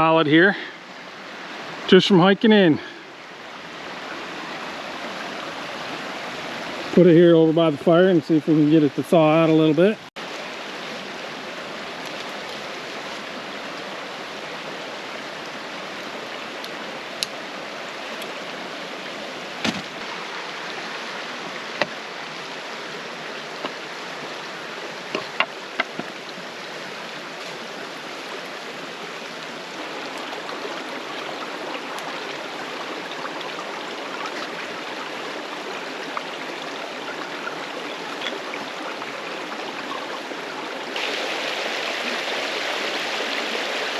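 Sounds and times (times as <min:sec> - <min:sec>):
mountain creek flowing: 0:00.0 - 0:43.9.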